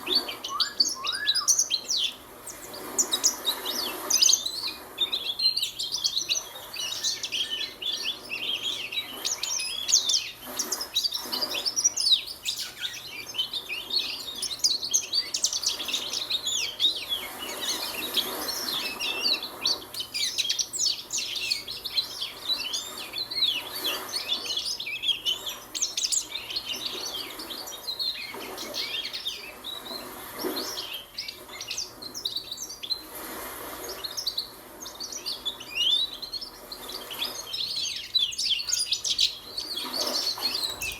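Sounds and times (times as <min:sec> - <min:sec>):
young bird twittering and chirping: 0:00.0 - 0:33.2, 0:34.0 - 0:40.9.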